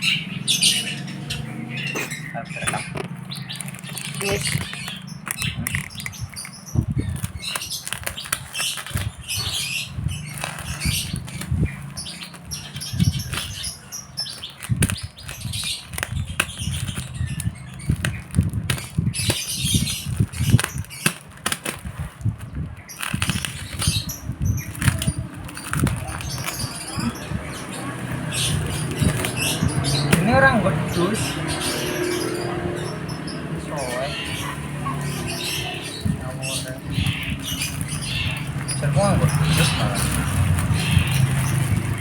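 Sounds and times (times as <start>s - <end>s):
plastic rustling and crinkling: 2.0s - 31.3s, 33.8s - 42.0s.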